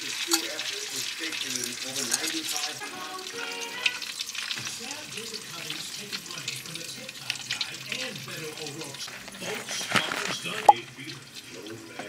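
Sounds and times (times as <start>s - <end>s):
faint background music: 0.0s - 12.0s
food sizzling in hot oil: 0.0s - 12.0s.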